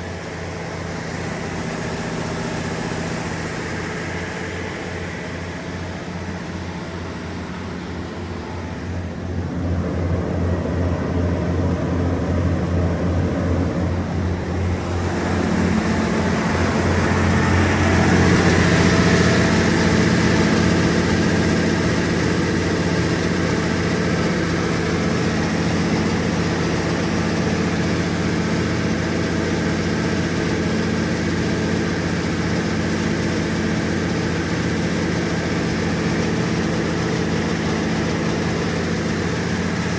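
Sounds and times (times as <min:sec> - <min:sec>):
diesel generator engine running: 0:00.0 - 0:39.9.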